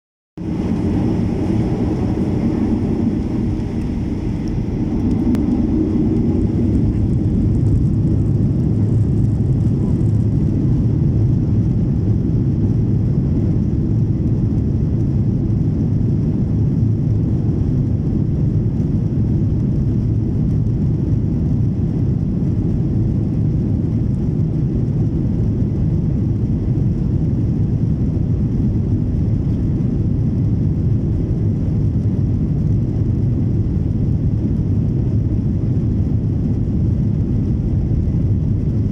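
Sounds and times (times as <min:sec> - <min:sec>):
jet engines deep rumble: 0:00.4 - 0:38.9.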